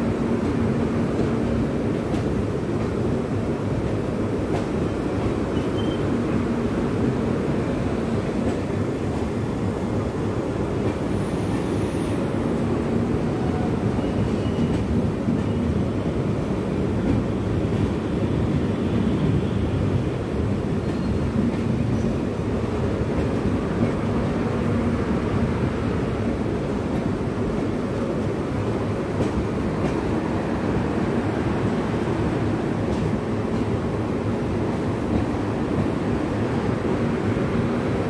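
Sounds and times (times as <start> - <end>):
train wheels rolling on rail: 0.0 - 38.0.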